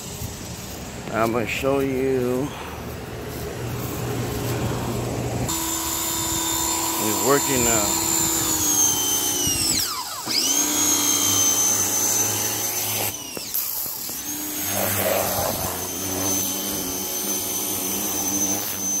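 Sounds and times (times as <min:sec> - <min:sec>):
pressure washer motor whine: 0:03.5 - 0:19.0.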